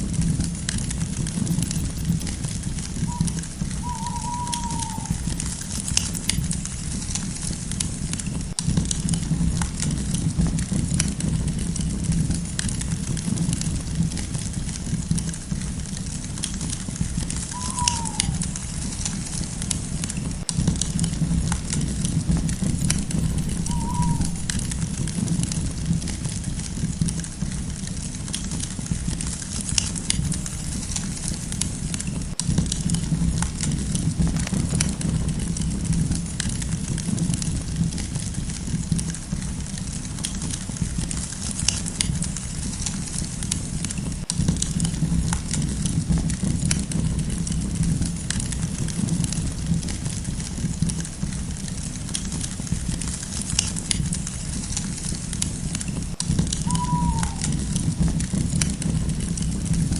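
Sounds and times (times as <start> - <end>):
campfire crackling and popping: 0.0 - 59.9
low rumble of burning: 0.0 - 59.9.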